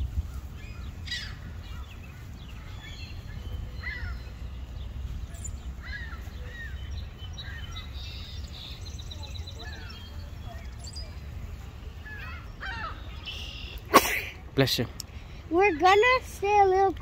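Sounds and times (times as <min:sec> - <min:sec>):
steady low rumble: 0:00.0 - 0:15.6.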